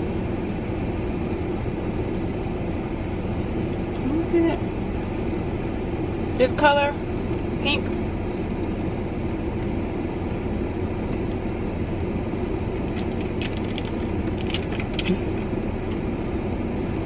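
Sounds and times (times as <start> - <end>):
air conditioning blowing: 0.0 - 17.0
car engine idling: 0.0 - 17.0.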